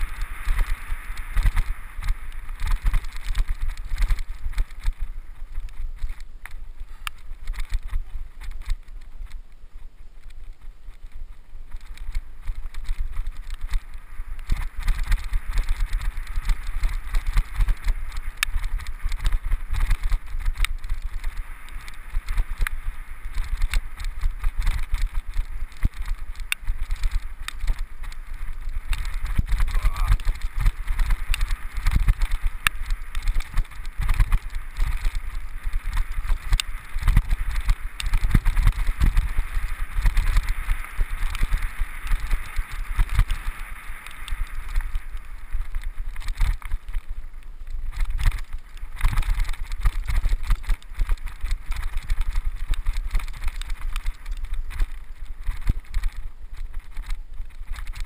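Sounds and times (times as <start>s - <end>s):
bike rattling and clicking: 0.0s - 58.0s
bike tyres rolling on rough ground: 0.0s - 58.0s
wind rumbling on microphone: 0.0s - 58.0s.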